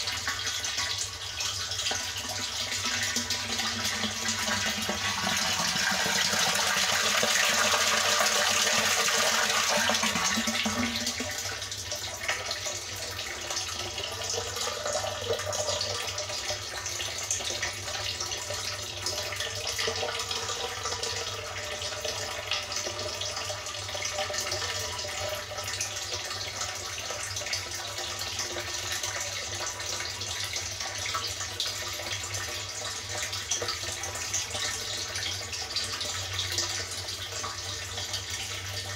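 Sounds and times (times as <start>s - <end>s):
water pouring into tank: 0.0s - 38.9s.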